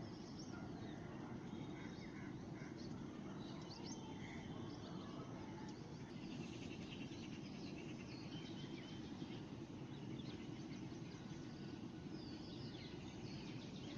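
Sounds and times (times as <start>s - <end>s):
low background noise: 0.0s - 13.9s
songbirds chirping: 0.0s - 13.9s.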